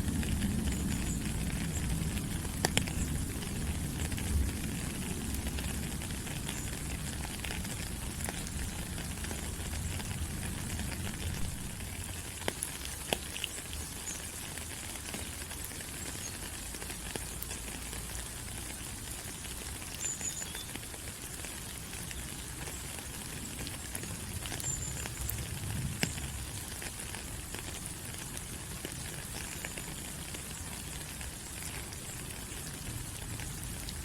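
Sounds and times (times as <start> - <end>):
rain on foliage: 0.0 - 34.0.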